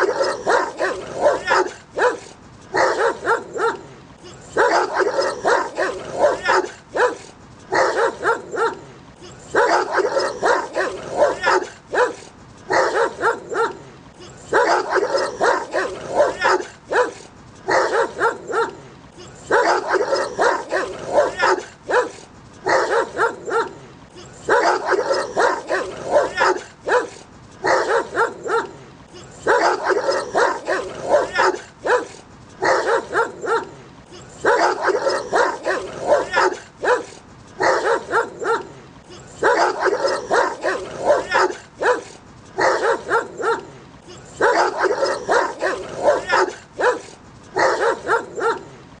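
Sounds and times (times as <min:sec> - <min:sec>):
dogs barking angrily: 0:00.0 - 0:18.8, 0:19.4 - 0:49.0.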